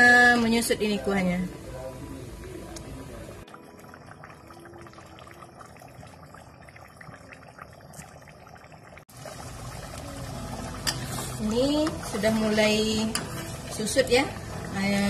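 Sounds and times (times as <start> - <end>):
sauce bubbling in a wok: 1.6 - 15.0.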